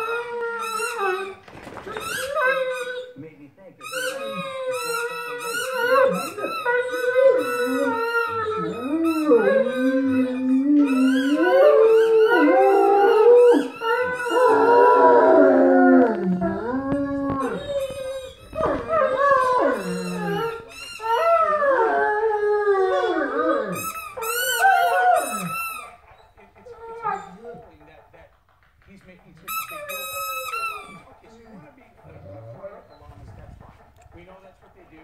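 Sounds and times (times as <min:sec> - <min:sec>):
dogs howling: 0:00.0 - 0:03.2, 0:03.9 - 0:27.8, 0:29.7 - 0:34.8.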